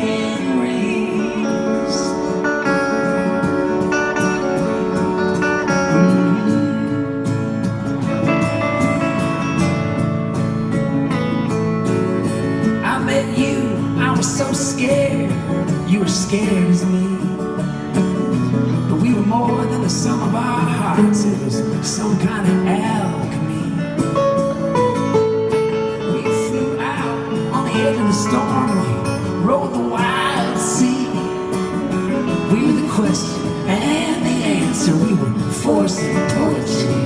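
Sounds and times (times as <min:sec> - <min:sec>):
guitar: 0:00.0 - 0:37.0
live band playing folk song: 0:00.0 - 0:37.0.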